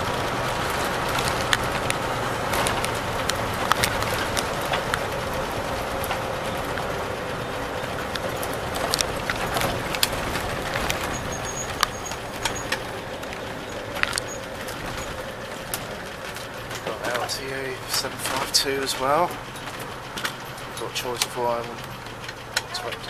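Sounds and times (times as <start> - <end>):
coach engine running: 0.0 - 23.0
road noise: 0.0 - 23.0
sharp clicks and rattles: 0.0 - 23.0.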